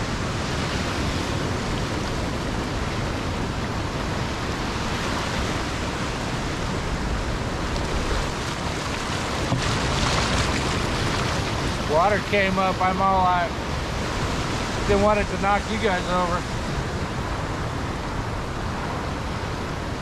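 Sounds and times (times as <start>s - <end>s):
wind buffeting microphone: 0.0s - 20.0s
small surf washing on sand: 0.1s - 17.0s.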